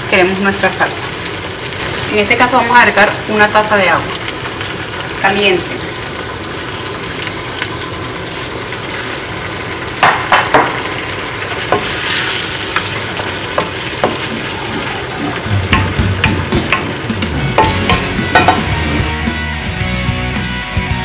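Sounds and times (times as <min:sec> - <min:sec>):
food sizzling in a wok: 0:00.0 - 0:19.6.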